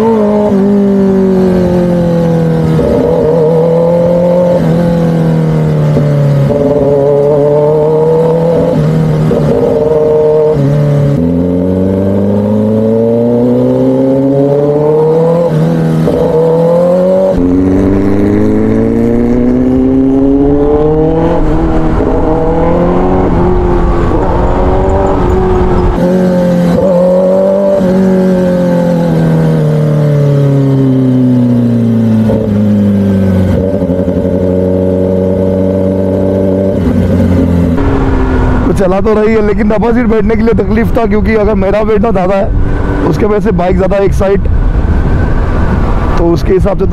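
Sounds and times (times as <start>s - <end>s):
motorcycle engine revving through gears: 0.0s - 46.3s.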